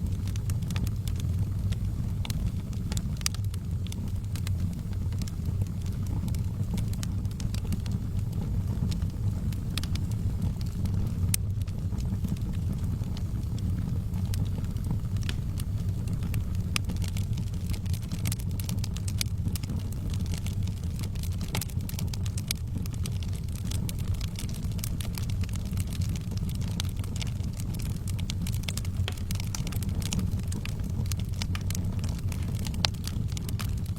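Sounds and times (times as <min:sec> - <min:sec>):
wood fire burning: 0:00.0 - 0:33.9.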